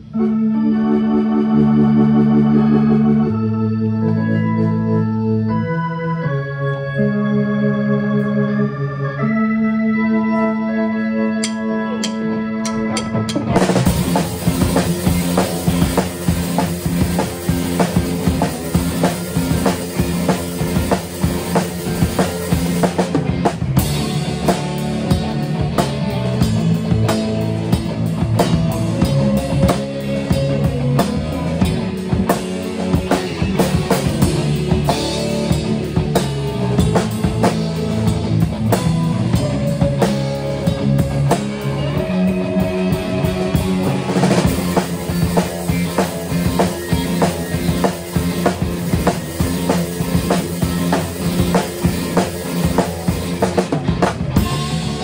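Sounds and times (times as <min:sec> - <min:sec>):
held keyboard chord: 0:00.0 - 0:55.0
rock band playing live: 0:00.0 - 0:55.0.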